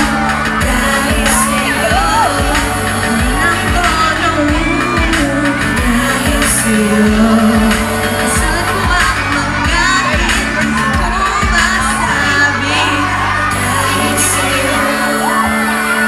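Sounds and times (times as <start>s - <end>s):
backing track with steady beat: 0.0s - 16.0s
woman singing a pop ballad: 0.0s - 16.0s.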